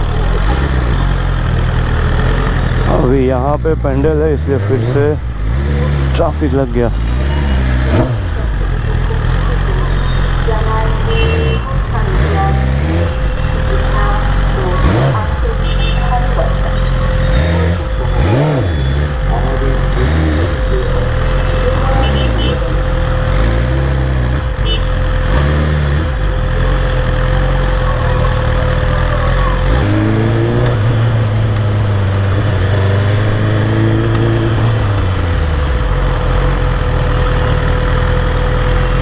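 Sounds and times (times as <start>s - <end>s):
motorcycle engine revving: 0.0s - 39.0s
road and traffic noise: 0.0s - 39.0s.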